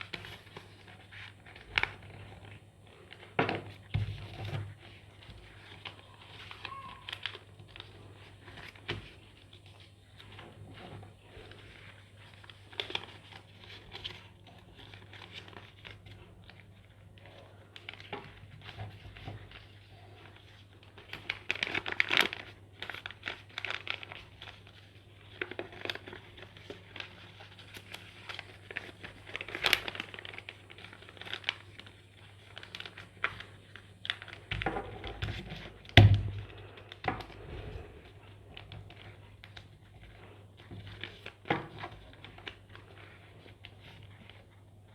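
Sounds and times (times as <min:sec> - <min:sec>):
paper rustling and crinkling: 0:00.0 - 0:44.9.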